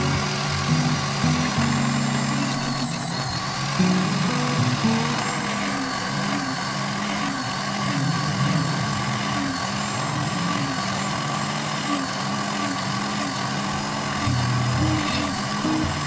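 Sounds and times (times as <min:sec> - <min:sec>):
drill press motor drilling: 0:00.0 - 0:16.0.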